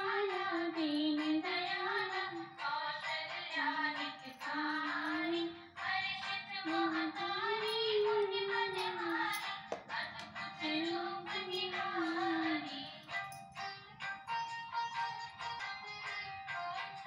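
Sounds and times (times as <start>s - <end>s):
high voice singing a song: 0.0s - 14.1s.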